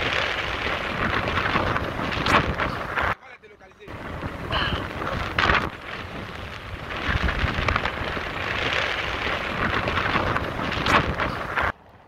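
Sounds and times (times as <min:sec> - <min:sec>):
wind buffeting a microphone: 0:00.0 - 0:03.2, 0:03.8 - 0:11.8.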